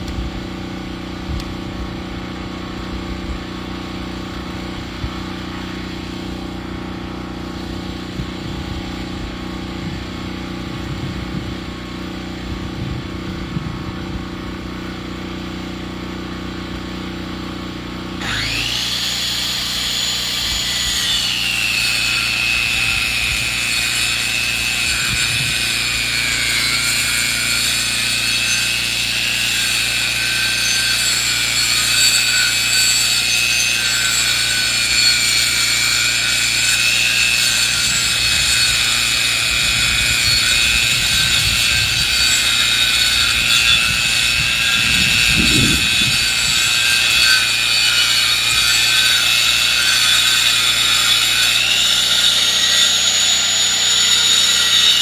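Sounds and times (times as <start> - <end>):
power saw cutting log: 0.1 - 13.0, 14.5 - 55.0.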